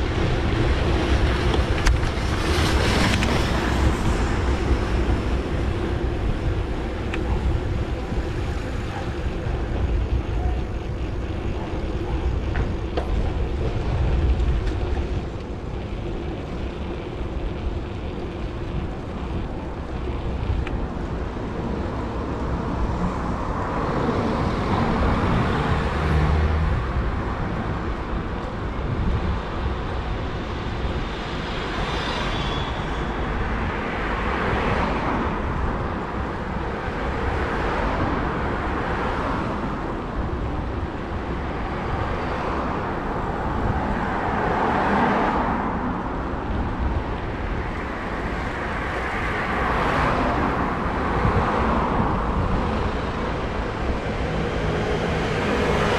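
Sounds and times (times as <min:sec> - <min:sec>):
road noise rumble: 0:00.0 - 0:55.9
vehicles passing by: 0:00.0 - 0:55.9.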